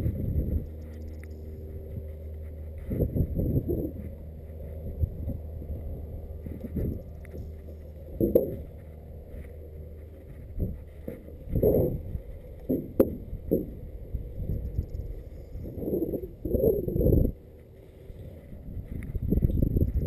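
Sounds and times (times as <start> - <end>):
steady low drone: 0.0 - 20.0
wind gusts on microphone: 0.0 - 20.0.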